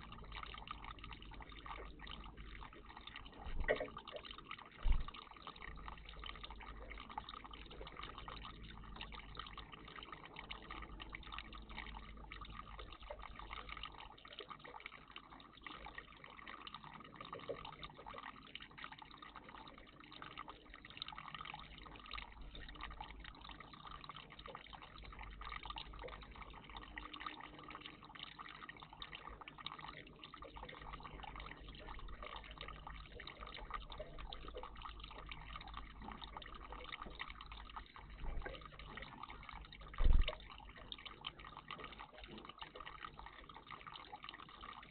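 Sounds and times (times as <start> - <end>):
water trickling faintly: 0.0 - 44.9.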